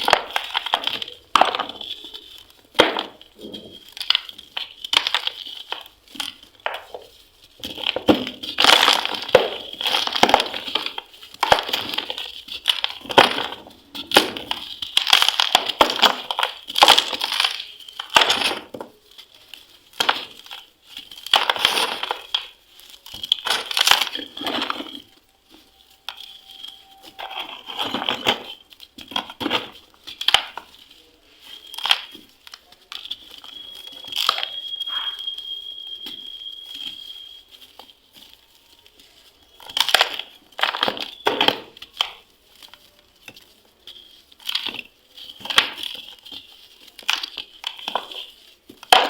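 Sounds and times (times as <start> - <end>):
dried cement crunching: 0.0 - 49.0.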